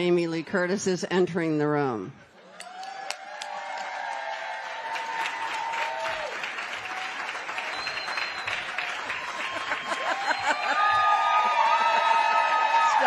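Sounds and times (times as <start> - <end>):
crowd applauding: 2.5 - 13.0.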